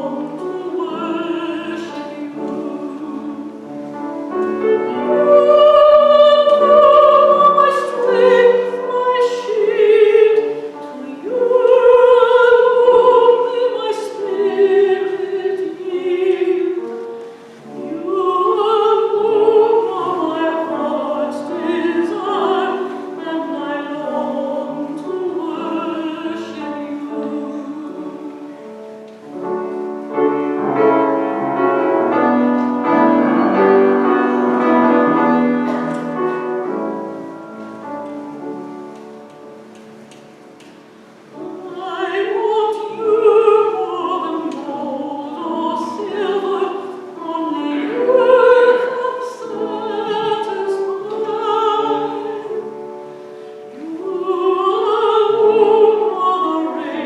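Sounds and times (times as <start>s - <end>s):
woman singing a hymn: 0.0s - 37.3s, 40.6s - 57.0s
piano accompaniment: 0.0s - 57.0s.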